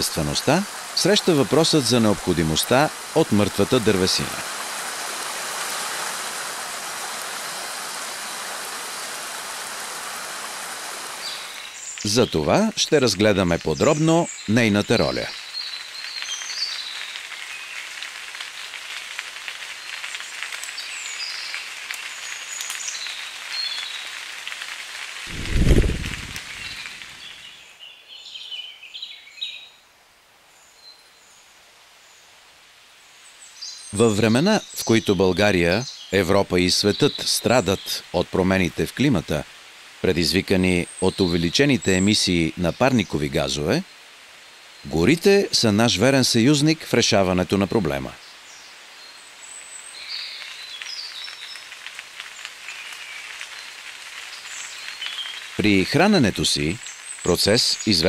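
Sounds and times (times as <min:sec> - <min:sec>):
forest birds chirping: 0:00.0 - 0:58.0
light hiss: 0:00.0 - 0:58.0
rain dripping through trees: 0:00.0 - 0:58.0.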